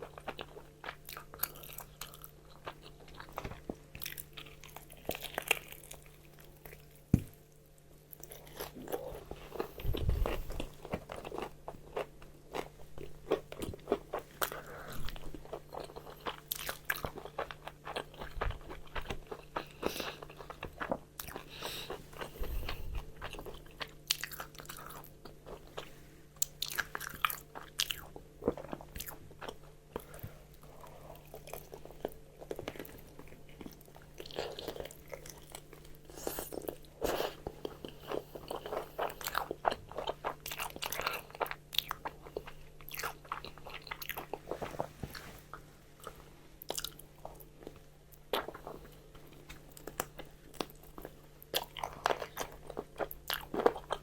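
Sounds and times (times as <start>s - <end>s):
crunchy fried chicken chewing: 0.0s - 7.1s, 8.1s - 54.0s
faint low hum: 0.0s - 54.0s.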